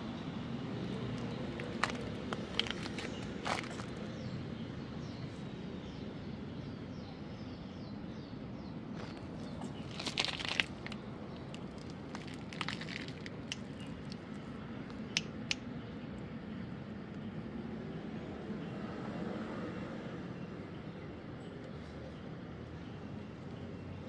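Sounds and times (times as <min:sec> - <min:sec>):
low street hum: 0:00.0 - 0:24.0.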